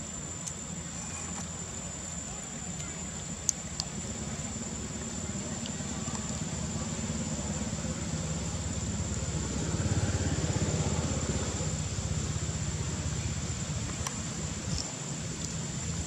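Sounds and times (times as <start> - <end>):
small engine rumbling: 0.0 - 16.0.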